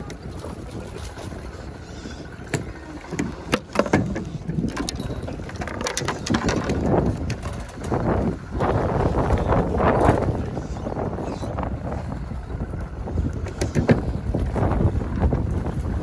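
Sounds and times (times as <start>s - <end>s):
water lapping against raft: 0.0s - 16.0s
wind buffeting microphone: 0.0s - 16.0s.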